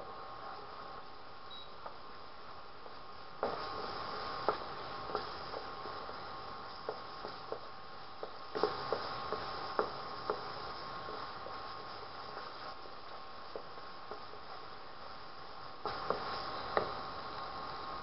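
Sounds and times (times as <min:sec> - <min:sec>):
frying hiss: 0:00.0 - 0:18.0
induction cooktop high hum: 0:00.0 - 0:18.0.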